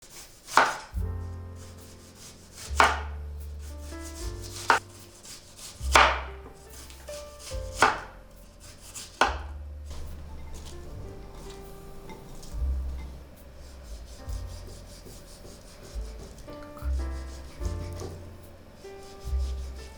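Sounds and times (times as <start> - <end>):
knife cutting on a board: 0.0 - 1.0, 1.6 - 3.1, 3.7 - 11.6, 12.3 - 18.4, 19.0 - 19.9
background music with low notes: 0.6 - 19.9.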